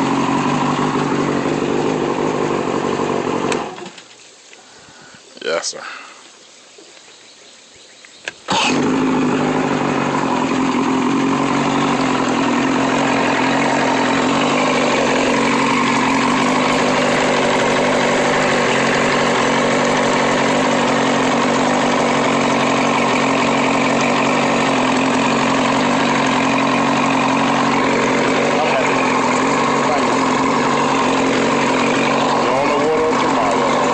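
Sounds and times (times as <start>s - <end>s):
boat engine running: 0.0s - 3.8s, 8.5s - 33.9s.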